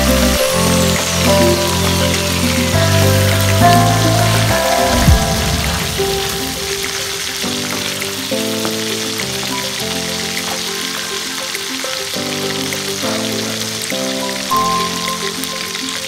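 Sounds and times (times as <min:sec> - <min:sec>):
fish frying in hot oil: 0:00.0 - 0:16.0
slow held chords music: 0:00.0 - 0:16.0.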